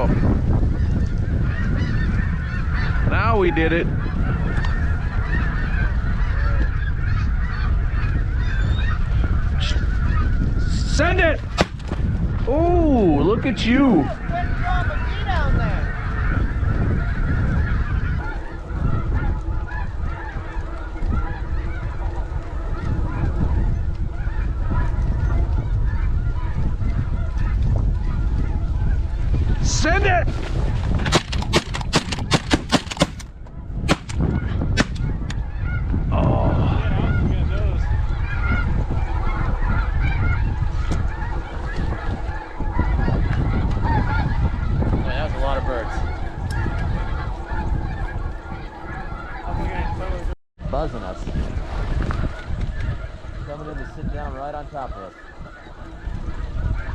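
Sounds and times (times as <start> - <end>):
geese honking: 0.0 - 33.2, 33.8 - 56.9
wind buffeting microphone: 0.0 - 56.9.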